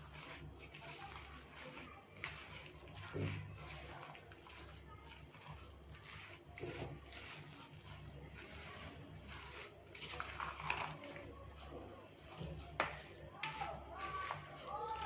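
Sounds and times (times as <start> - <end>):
wet squelching of meat mixing: 0.0 - 15.0.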